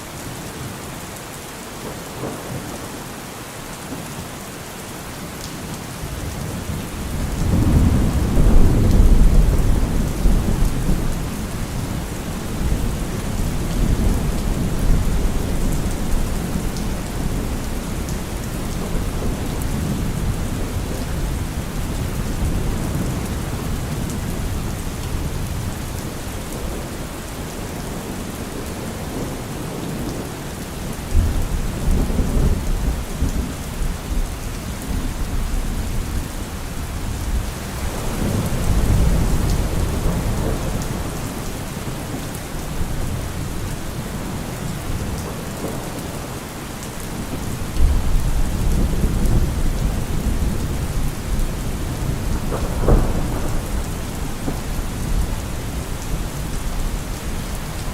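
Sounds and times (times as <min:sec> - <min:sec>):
heavy rain on car roof: 0:00.2 - 0:57.9
thunder rumbling: 0:06.2 - 0:26.9, 0:31.1 - 0:46.4, 0:47.0 - 0:57.9.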